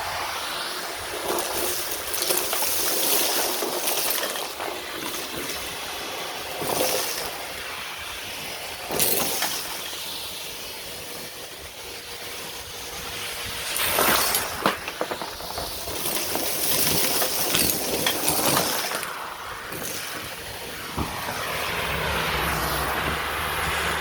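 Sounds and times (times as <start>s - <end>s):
sand trickling: 0.0s - 24.0s.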